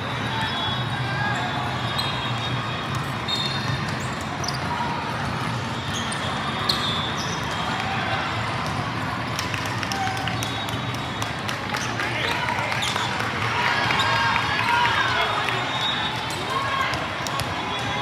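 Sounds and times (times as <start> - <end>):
crowd and court noise: 0.0 - 18.0
volleyballs hit and bouncing: 2.9 - 18.0.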